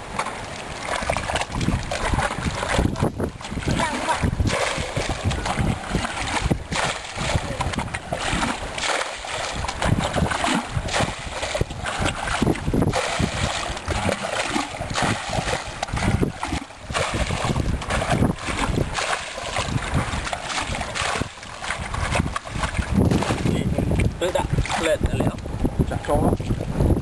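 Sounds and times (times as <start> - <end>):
muddy water splashing from bucket: 0.0 - 25.5.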